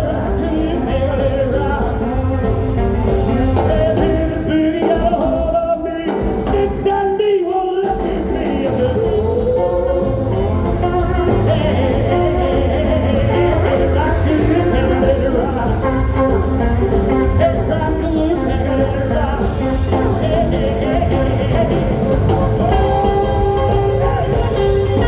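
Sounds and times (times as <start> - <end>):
live rock band playing: 0.0 - 25.0
person singing: 0.0 - 25.0.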